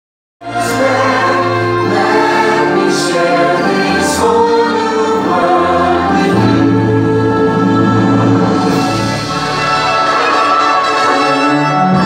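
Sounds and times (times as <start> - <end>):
choir singing: 0.4 - 12.0
orchestral music: 0.4 - 12.0.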